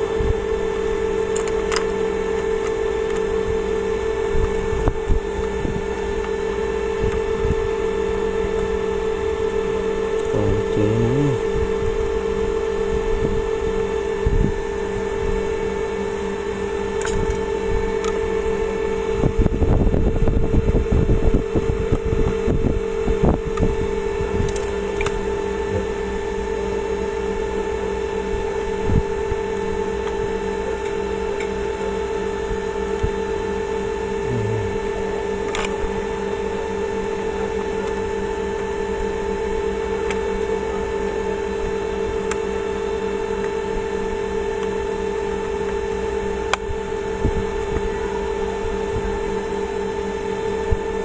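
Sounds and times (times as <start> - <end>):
steady motor-like hum: 0.0 - 51.0.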